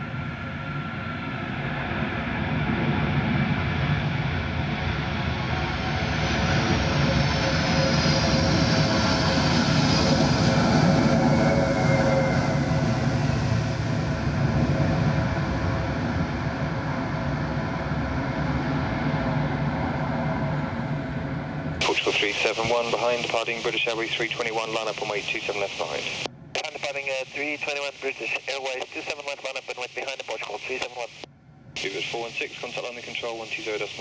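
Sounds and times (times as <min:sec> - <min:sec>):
high turbine whine: 0:00.0 - 0:34.0
jet airliner passing: 0:00.0 - 0:34.0.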